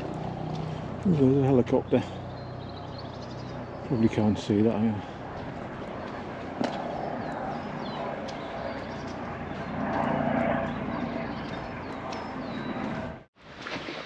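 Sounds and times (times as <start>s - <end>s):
helicopter flying overhead: 0.0s - 13.3s.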